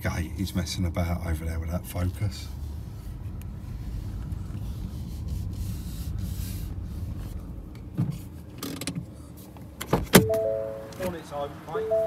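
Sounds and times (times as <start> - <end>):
car cabin rumble: 0.2 - 12.0.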